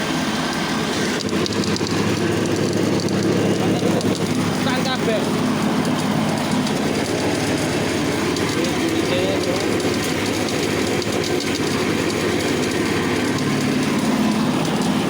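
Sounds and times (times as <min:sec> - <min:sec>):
fast continuous rattle: 0:00.0 - 0:15.0
machine motor running: 0:00.0 - 0:15.0.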